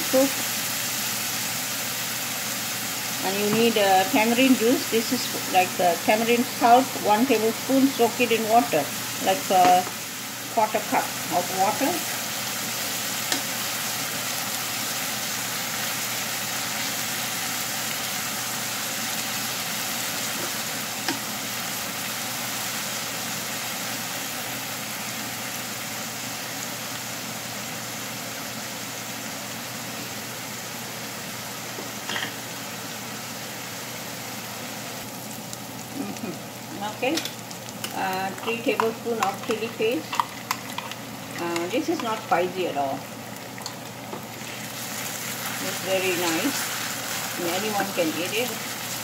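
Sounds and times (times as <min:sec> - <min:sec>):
onions sizzling in hot oil: 0:00.0 - 0:49.0.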